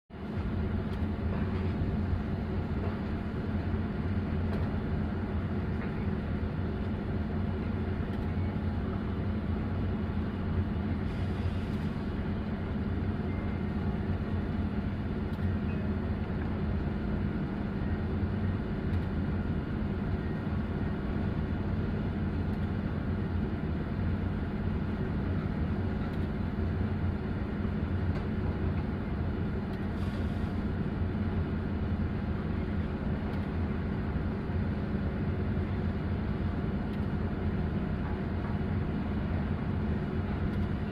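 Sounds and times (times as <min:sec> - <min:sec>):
diesel excavator engine droning: 0:00.2 - 0:40.9.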